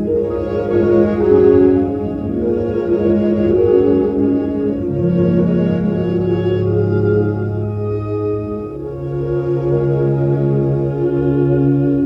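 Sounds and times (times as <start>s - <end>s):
slow organ-like chords: 0.0s - 12.0s.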